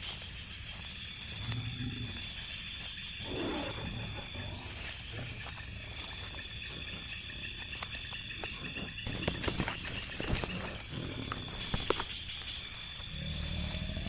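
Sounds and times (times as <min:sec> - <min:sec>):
crickets shrilling: 0:00.0 - 0:14.0.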